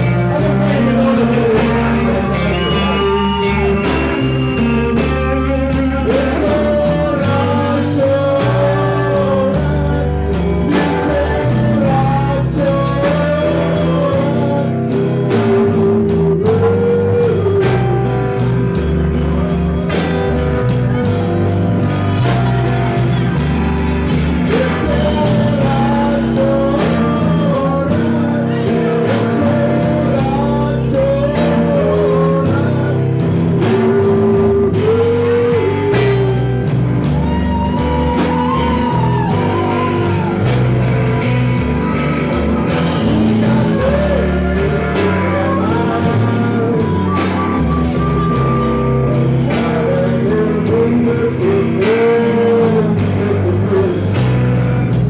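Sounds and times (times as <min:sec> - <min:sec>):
bass guitar: 0:00.0 - 0:55.0
drum kit with cymbals: 0:00.0 - 0:55.0
electric guitar: 0:00.0 - 0:55.0
man singing: 0:00.0 - 0:55.0.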